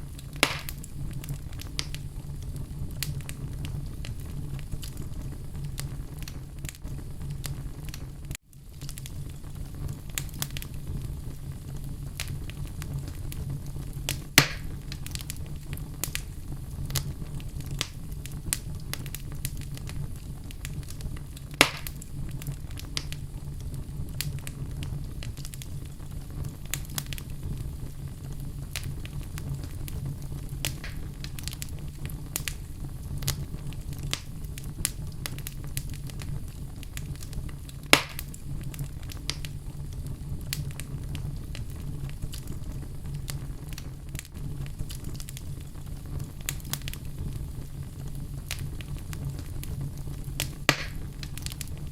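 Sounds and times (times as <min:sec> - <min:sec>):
fire crackling and popping: 0:00.0 - 0:51.9
wood fire rumbling: 0:00.0 - 0:51.9.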